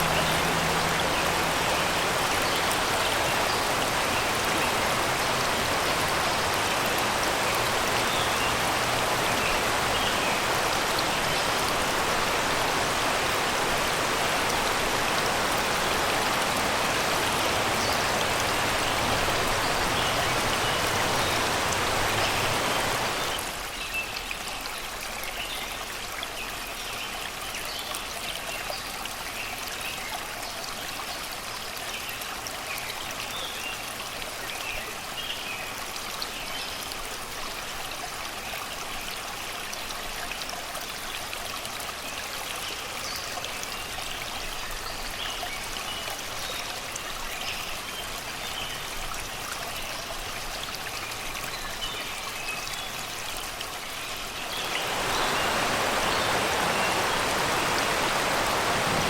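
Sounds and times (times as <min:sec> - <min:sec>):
river water over rocks: 0:00.0 - 0:59.0.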